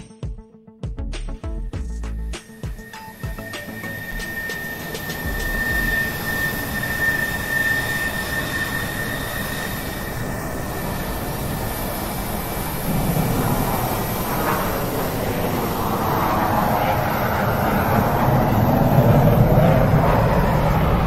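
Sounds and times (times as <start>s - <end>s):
high engine whine: 1.8s - 21.0s
airliner engine cabin noise: 2.3s - 21.0s.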